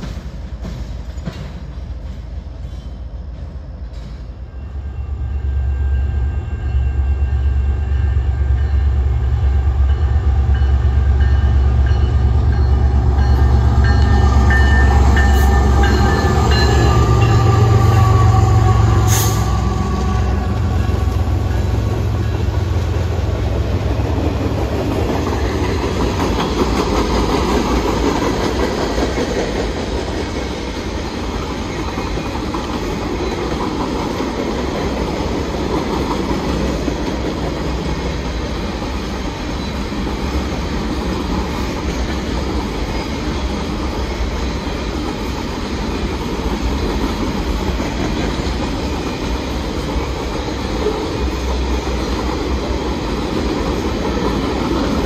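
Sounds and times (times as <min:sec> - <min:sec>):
train wheels clattering over rails: 0:00.0 - 0:04.4, 0:10.4 - 0:55.0
deep train rumble: 0:00.0 - 0:55.0.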